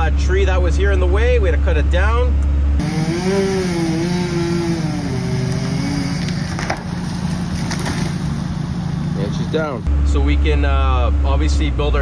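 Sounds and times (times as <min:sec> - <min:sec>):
excavator diesel engine working: 0:00.0 - 0:12.0.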